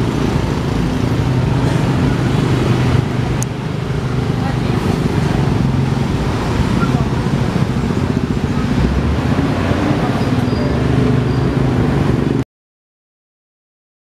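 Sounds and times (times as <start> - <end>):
cars passing: 0.0 - 12.4
motorcycle and scooter engines: 0.0 - 12.4.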